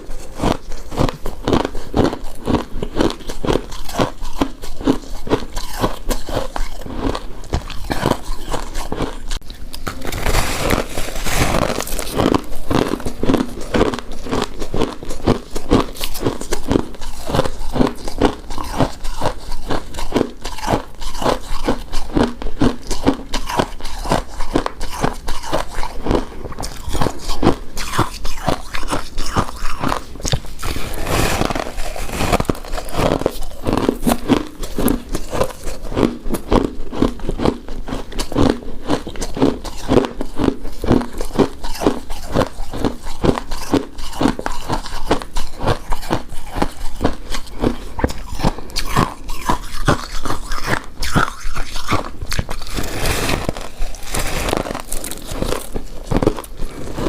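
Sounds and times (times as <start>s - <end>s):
wet chewing and mouth smacks: 0.0s - 10.2s, 11.5s - 57.0s.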